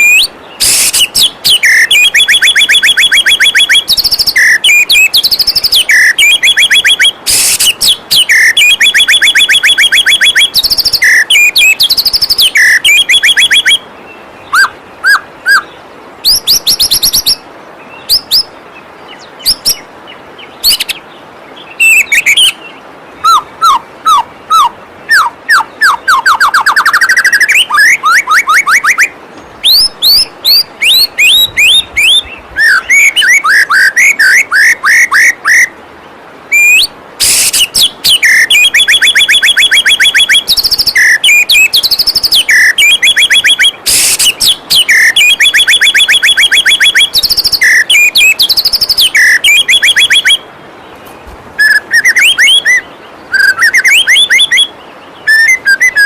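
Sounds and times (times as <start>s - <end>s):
bird singing whistles and trills: 0.0s - 35.8s, 36.5s - 51.0s, 51.6s - 56.0s
faint waterfall rushing: 0.0s - 56.0s.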